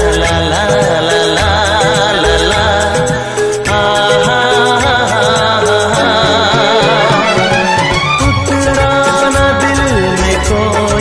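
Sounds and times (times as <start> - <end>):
instrumental film music: 0.0 - 11.0.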